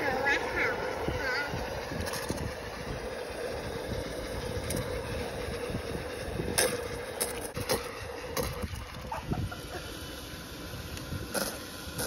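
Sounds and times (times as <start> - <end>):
electric air blower running: 0.0 - 12.0.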